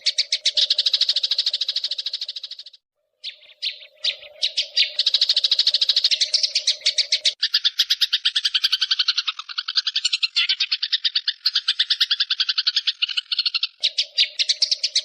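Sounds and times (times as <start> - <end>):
songbird trilling: 0.0 - 15.0.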